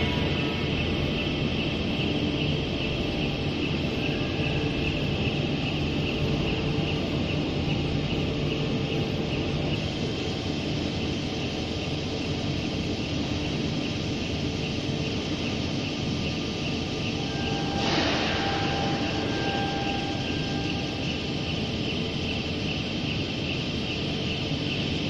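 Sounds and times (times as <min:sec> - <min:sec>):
rail trolley motor humming: 0:00.0 - 0:25.0.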